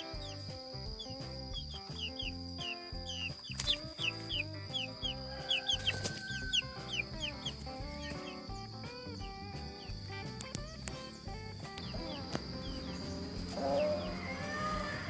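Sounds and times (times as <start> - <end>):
background music: 0.0 - 15.0
chickens clucking: 0.0 - 15.0.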